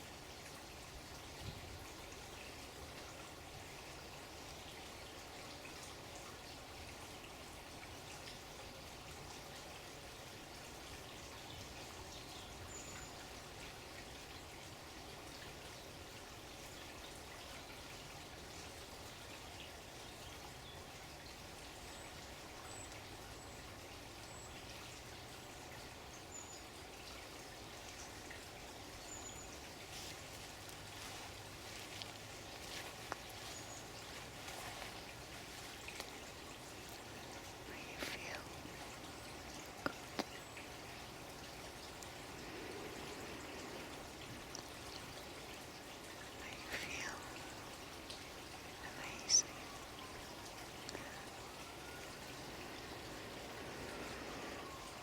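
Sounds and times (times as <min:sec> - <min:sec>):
faint running water: 0:00.0 - 0:55.0.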